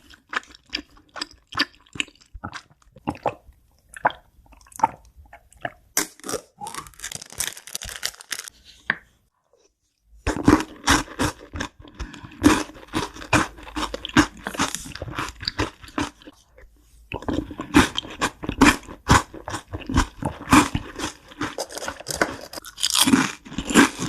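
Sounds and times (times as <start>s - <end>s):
crunchy food being chewed: 0.0s - 8.5s, 10.2s - 24.0s.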